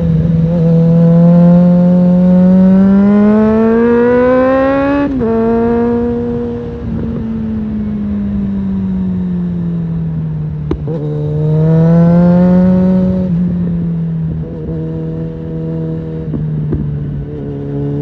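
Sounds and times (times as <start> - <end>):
motorcycle engine under way: 0.0 - 18.0.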